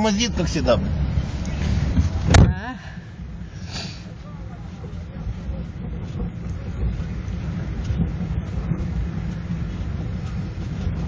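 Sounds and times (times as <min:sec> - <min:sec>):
blizzard wind: 0:00.0 - 0:11.0
car engines idling in traffic: 0:00.0 - 0:11.0.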